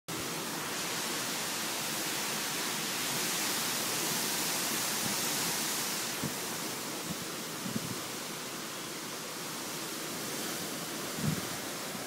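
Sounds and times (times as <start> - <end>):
strong wind rushing through trees: 0.1 - 12.0.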